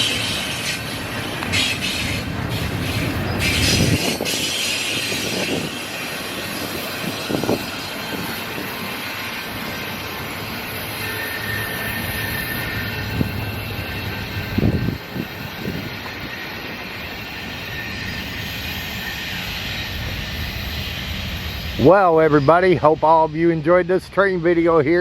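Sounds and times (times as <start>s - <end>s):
high-pitched wheel squeal: 0.0s - 22.6s
train wheels rushing on rails: 0.0s - 25.0s.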